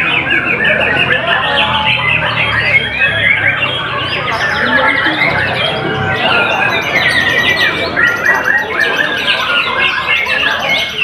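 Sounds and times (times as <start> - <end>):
bird singing varied notes: 0.0 - 11.0.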